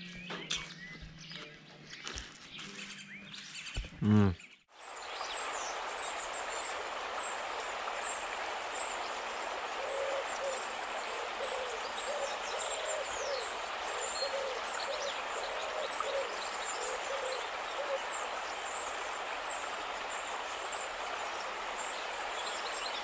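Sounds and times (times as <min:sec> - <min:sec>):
steady outdoor hiss: 0:04.0 - 0:23.0.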